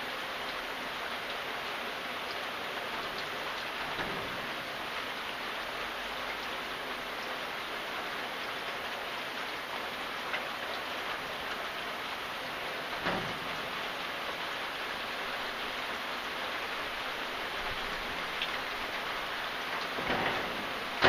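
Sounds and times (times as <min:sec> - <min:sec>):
louder water drips: 0:00.0 - 0:21.0
steady rainfall: 0:00.0 - 0:21.0.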